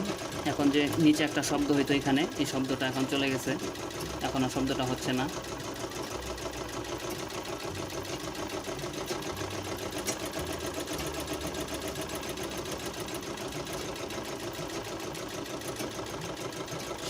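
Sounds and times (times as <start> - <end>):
sewing machine running: 0.0 - 17.0.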